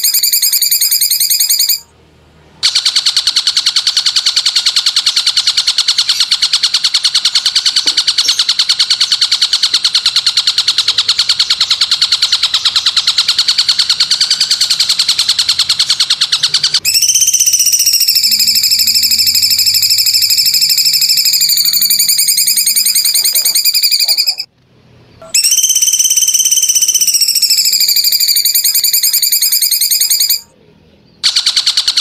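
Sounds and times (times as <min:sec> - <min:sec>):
buzzy bird trill: 0:00.0 - 0:01.9, 0:02.6 - 0:24.5, 0:25.2 - 0:32.0
high-pitched bird whistling call: 0:00.0 - 0:01.9, 0:02.6 - 0:24.5, 0:25.2 - 0:30.5.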